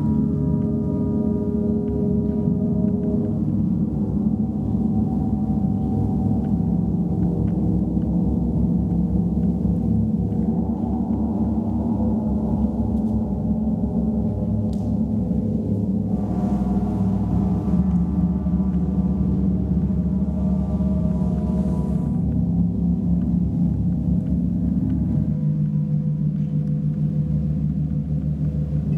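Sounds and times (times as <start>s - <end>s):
large gongs low tones: 0.0s - 28.9s.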